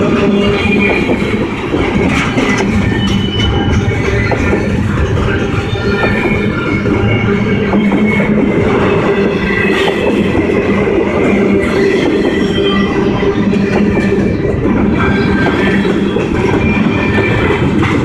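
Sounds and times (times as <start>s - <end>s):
freight train wheels rumbling on rail: 0.0s - 18.0s
high wheel squeal: 0.0s - 18.0s.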